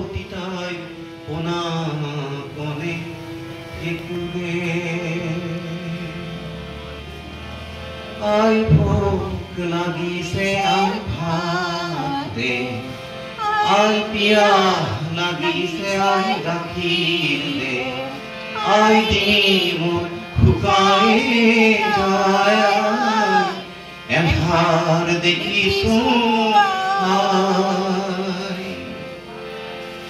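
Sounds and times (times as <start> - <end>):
man singing: 0.0 - 6.4, 8.2 - 29.1
harmonium: 0.0 - 30.0.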